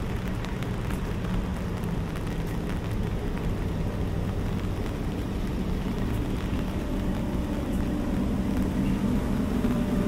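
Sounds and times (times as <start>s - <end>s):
faint engine hum: 0.0s - 10.0s
low rumble of street traffic: 0.0s - 10.0s
rain hissing on wet walkway: 0.0s - 10.0s.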